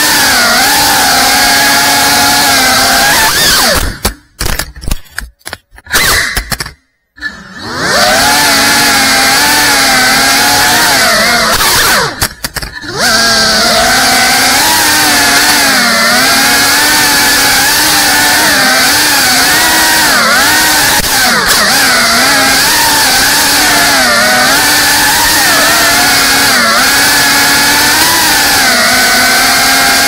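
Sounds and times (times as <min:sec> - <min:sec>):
drone motors whining: 0:00.0 - 0:04.2, 0:05.8 - 0:30.0.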